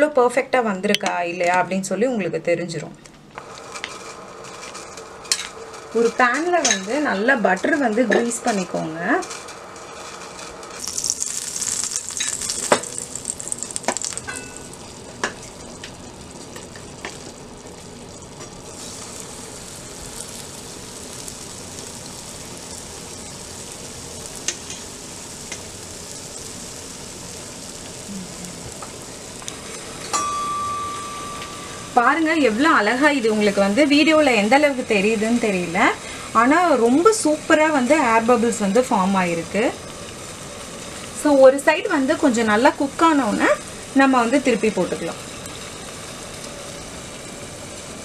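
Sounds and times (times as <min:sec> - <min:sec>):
batter sizzling in frying pan: 0:03.4 - 0:48.0.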